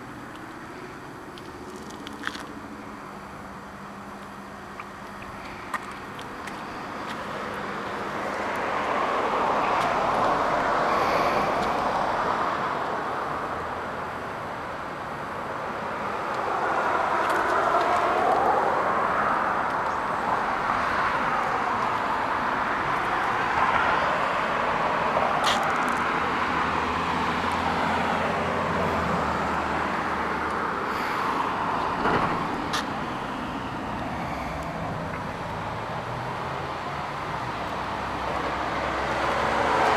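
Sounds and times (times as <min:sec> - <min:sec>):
vehicles passing: 0:00.0 - 0:39.9.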